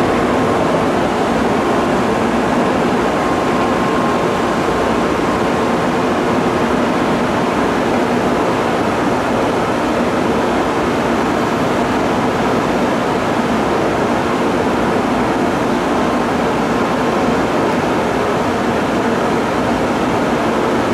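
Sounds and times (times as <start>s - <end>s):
high-speed trains rushing: 0.0s - 19.0s.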